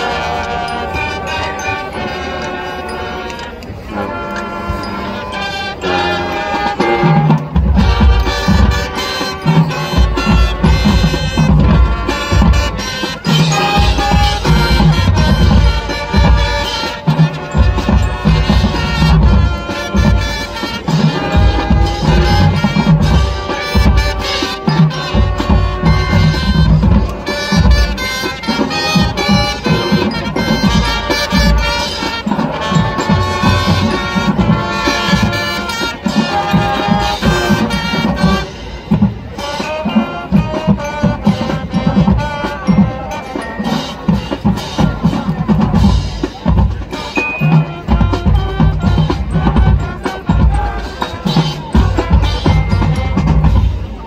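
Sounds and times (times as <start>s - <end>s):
brass horns playing: 0.0s - 54.0s
marching bass drums: 4.6s - 54.0s.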